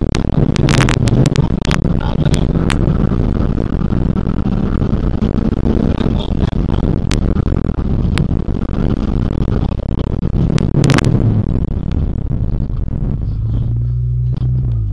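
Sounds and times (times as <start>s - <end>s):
car engine driven hard: 0.0s - 14.9s
loud road noise: 0.0s - 14.9s.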